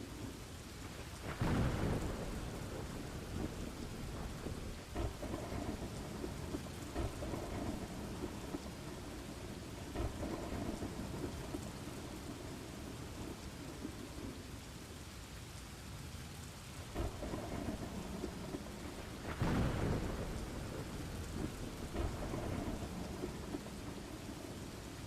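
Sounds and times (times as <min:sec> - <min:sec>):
steady rain: 0:00.0 - 0:25.0
rolling thunder: 0:00.9 - 0:14.3, 0:16.9 - 0:25.0.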